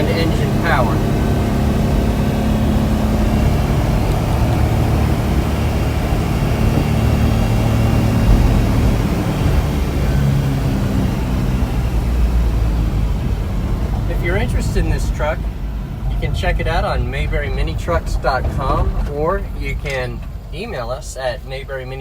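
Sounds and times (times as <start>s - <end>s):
truck engine pulling under load: 0.0s - 21.8s.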